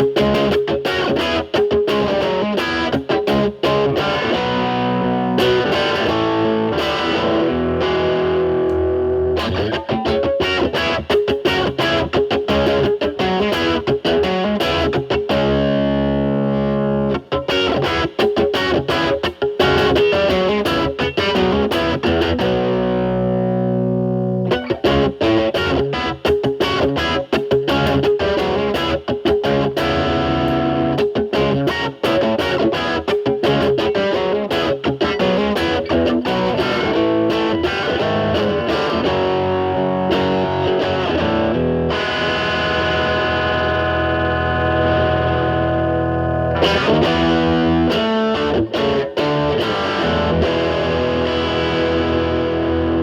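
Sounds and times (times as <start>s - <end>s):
distorted electric guitar riffs: 0.0s - 53.0s
guitar chords ringing out: 0.0s - 53.0s.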